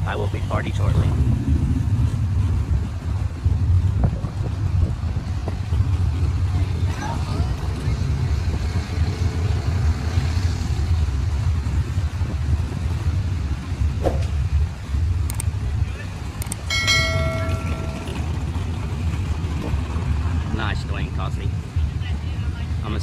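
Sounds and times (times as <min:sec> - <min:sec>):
low rumbling background noise: 0:00.0 - 0:23.0.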